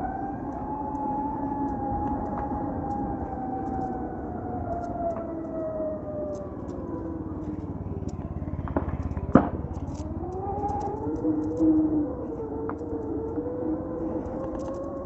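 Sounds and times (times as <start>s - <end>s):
electric scooter motor whine: 0.0s - 15.0s
road and wind noise: 0.0s - 15.0s.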